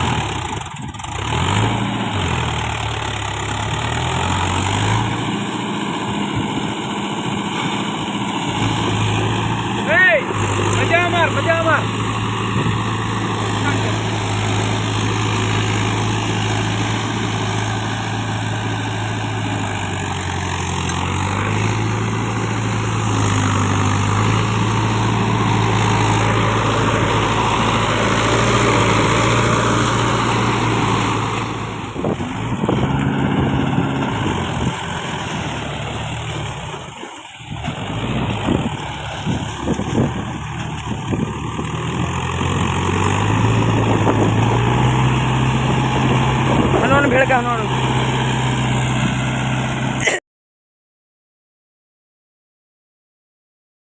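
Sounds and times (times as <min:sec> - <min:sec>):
tractor diesel engine running: 0:00.0 - 0:50.1.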